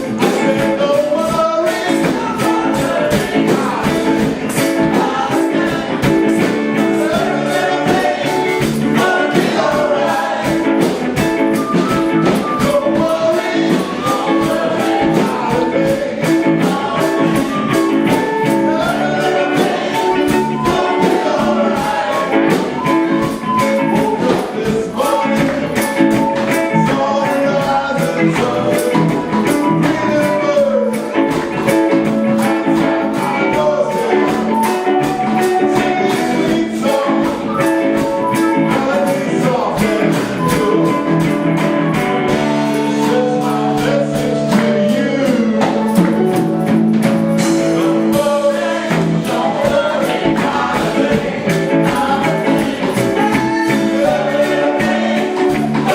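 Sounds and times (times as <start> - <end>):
guitar: 0.0 - 55.9
person singing: 0.0 - 55.9
tambourine beat: 0.0 - 55.9.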